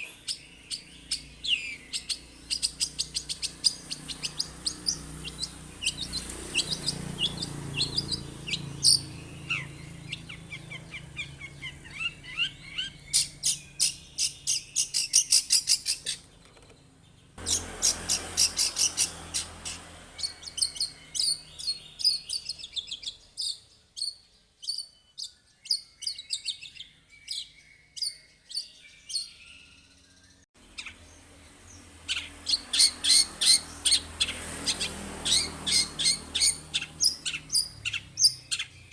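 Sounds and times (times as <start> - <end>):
bird singing sharp high chirps: 0.0 - 16.5, 17.1 - 38.9.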